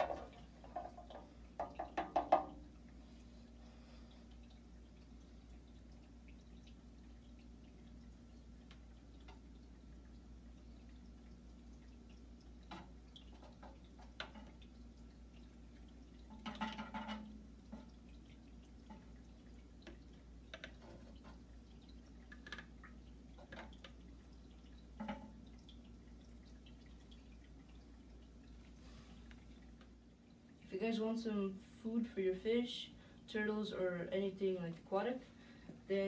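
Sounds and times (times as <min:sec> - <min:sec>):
low steady hum: 0:00.0 - 0:36.0
water dripping: 0:00.0 - 0:36.0.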